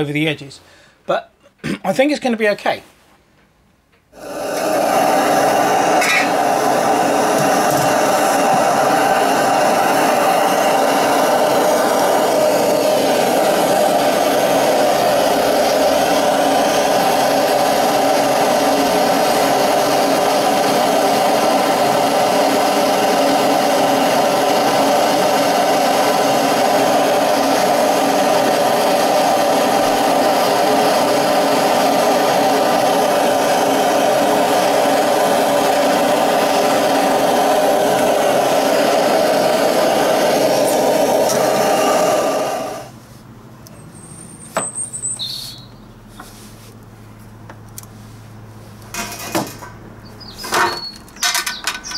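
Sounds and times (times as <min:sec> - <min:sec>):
furnace burner roaring: 0:04.1 - 0:51.9.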